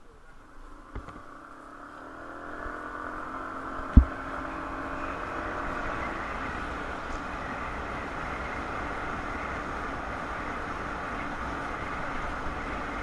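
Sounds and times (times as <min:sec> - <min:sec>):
faint engine hum: 0:00.0 - 0:13.0
road traffic noise: 0:00.0 - 0:13.0.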